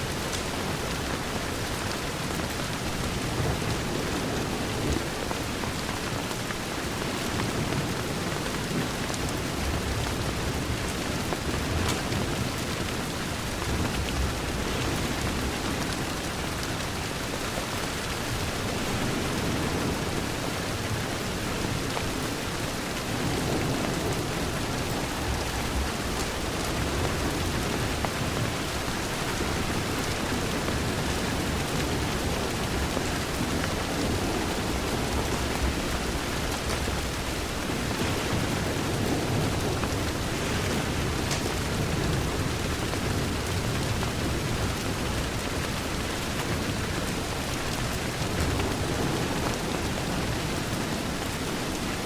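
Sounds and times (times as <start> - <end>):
heavy rain on a window: 0.0 - 52.0.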